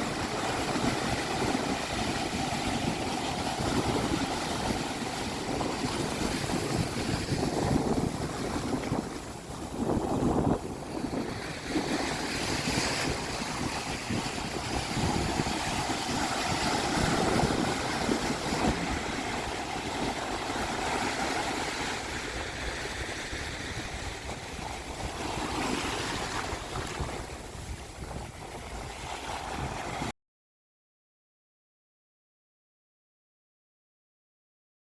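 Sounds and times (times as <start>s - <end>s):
surf washing onto beach: 0.0s - 30.1s
wind buffeting microphone: 0.0s - 30.1s.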